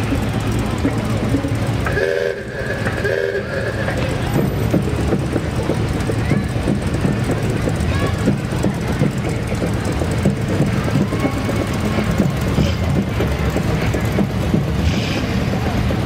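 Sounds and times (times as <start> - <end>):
cars and trucks driving past: 0.0 - 16.0.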